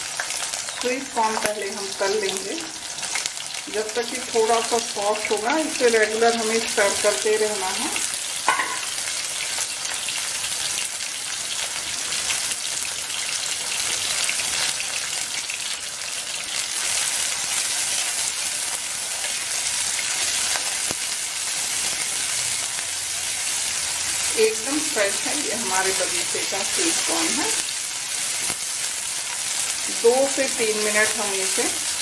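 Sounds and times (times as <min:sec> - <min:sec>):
food sizzling in hot oil: 0:00.0 - 0:32.0.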